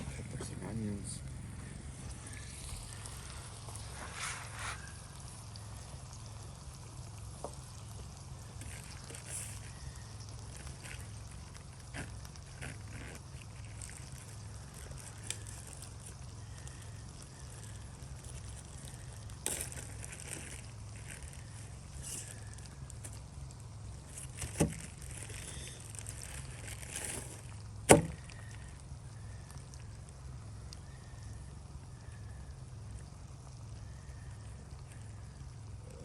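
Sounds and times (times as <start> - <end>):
campfire crackles: 0.0 - 36.0.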